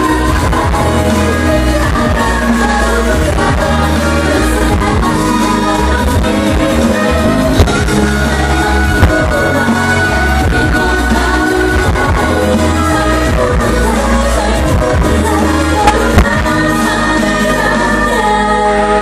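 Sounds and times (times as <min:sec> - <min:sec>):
live pop music: 0:00.0 - 0:19.0.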